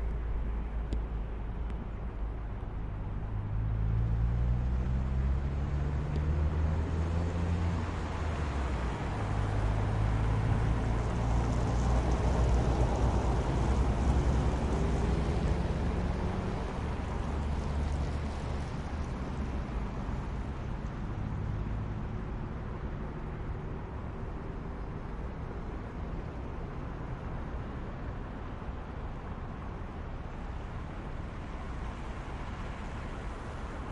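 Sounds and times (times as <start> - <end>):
city traffic rumble: 0.0 - 33.9.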